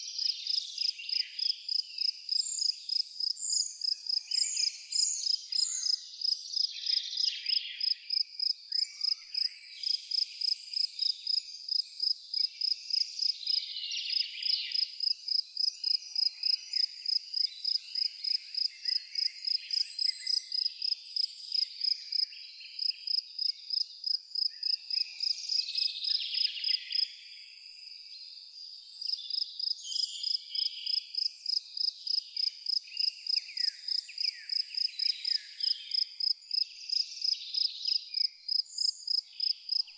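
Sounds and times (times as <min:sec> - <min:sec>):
insect chirping: 0:00.2 - 0:28.1, 0:29.0 - 0:39.9.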